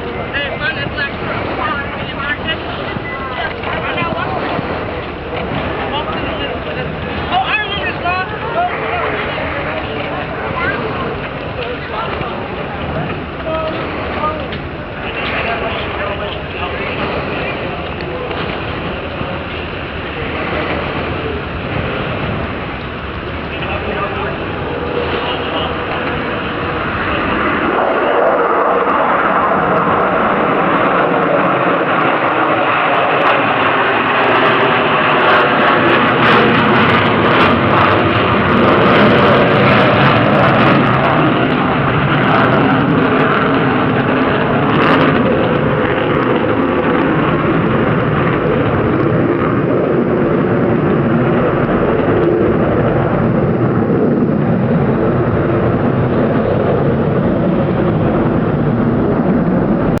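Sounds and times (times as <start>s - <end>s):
jet engine roar: 0.0s - 60.0s
sharp crackles: 0.0s - 60.0s.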